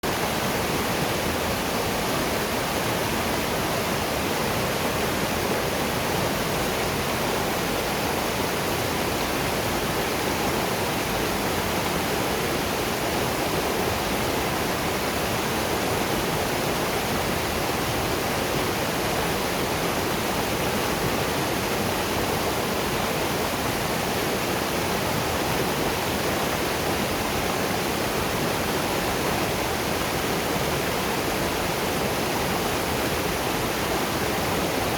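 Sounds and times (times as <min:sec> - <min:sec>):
waterfall and river rushing: 0:00.0 - 0:34.9.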